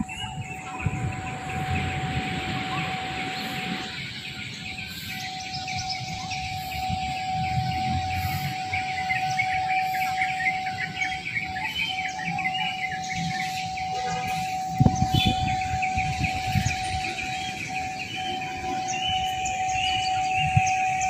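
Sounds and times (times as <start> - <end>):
birds chirping: 0.0 - 21.0
constant high tone: 0.0 - 21.0
outdoor background noise: 0.0 - 21.0.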